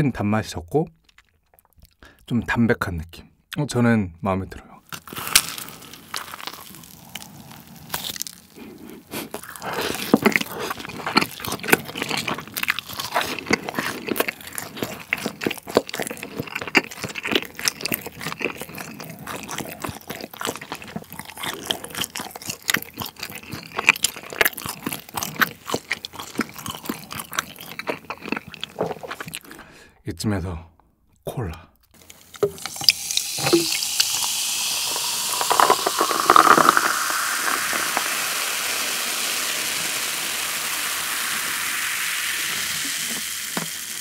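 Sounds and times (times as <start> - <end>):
chewing crunchy food: 0.9 - 2.2, 4.8 - 29.8, 31.8 - 44.0.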